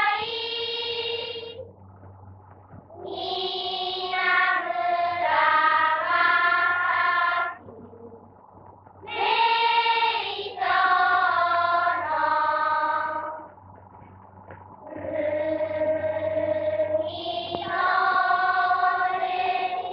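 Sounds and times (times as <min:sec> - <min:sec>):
group of voices singing: 0:00.0 - 0:01.6, 0:03.0 - 0:08.2, 0:09.1 - 0:13.5, 0:14.9 - 0:19.9
steady low hum: 0:00.0 - 0:19.9.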